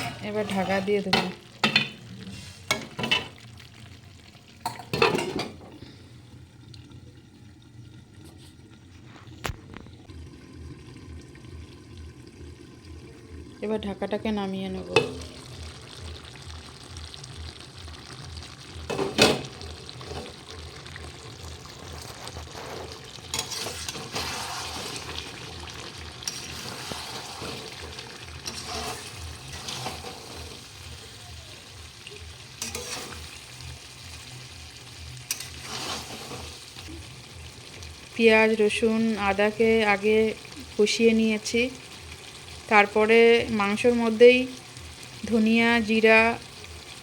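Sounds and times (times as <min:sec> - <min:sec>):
food sizzling in oil: 0:00.0 - 0:05.7, 0:10.1 - 0:47.0.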